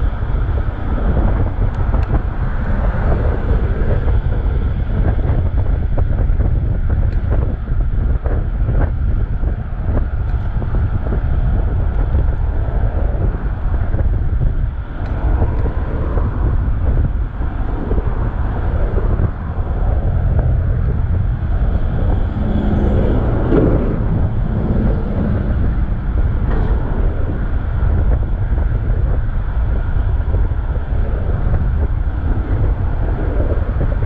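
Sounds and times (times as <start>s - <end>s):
passing vehicle hum: 0.0s - 34.0s
road traffic noise: 0.0s - 34.0s
wind buffeting microphone: 0.0s - 34.0s.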